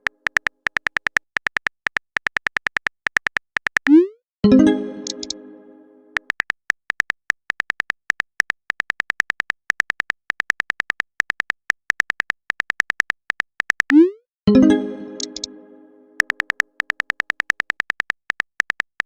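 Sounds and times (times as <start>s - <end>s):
phone keyboard typing clicks: 0.0s - 4.0s, 5.0s - 5.4s, 6.2s - 14.0s, 15.2s - 15.5s, 16.2s - 19.0s.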